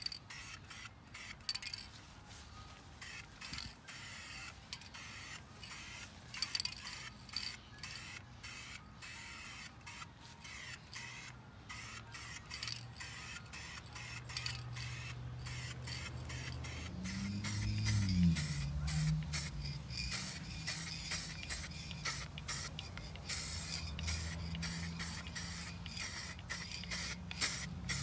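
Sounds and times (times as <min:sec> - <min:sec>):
spray paint hissing: 0:00.0 - 0:01.9, 0:03.0 - 0:28.0.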